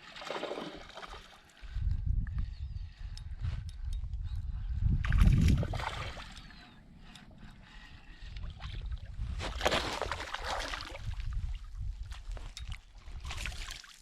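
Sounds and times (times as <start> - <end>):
wind buffeting microphone: 1.6 - 13.6.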